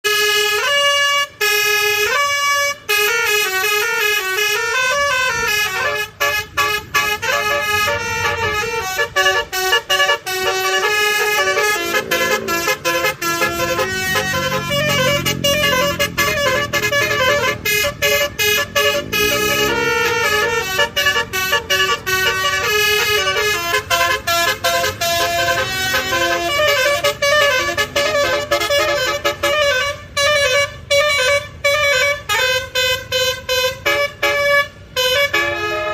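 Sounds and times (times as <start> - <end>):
musical air horn melody: 0.0 - 35.9.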